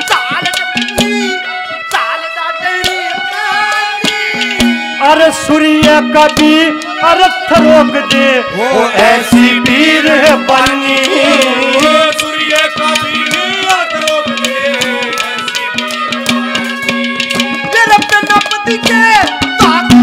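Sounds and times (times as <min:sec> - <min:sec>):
fast hand-drum strokes: 0:00.0 - 0:02.1, 0:02.8 - 0:20.0
wavering melody line: 0:00.0 - 0:20.0.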